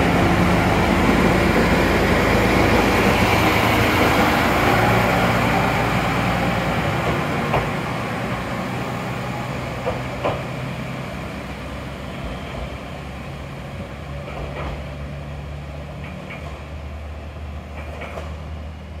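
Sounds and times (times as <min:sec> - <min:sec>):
diesel railcar engine hum: 0:00.0 - 0:19.0
train wheel noise: 0:00.0 - 0:19.0.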